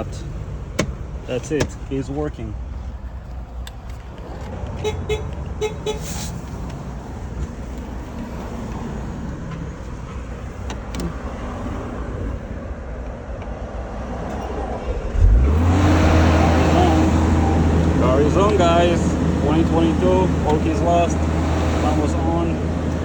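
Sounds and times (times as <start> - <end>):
low vehicle rumble: 0.0 - 23.0.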